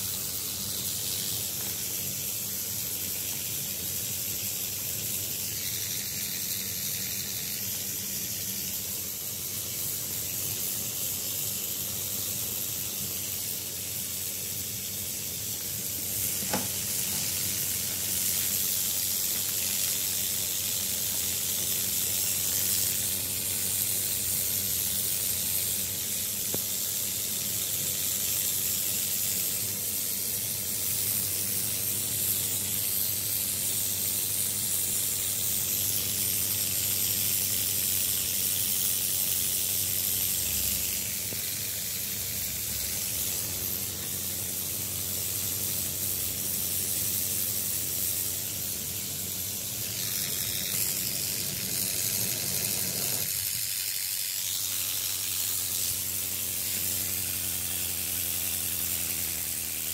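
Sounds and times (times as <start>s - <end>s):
steam hissing from nozzle: 0.0s - 59.9s.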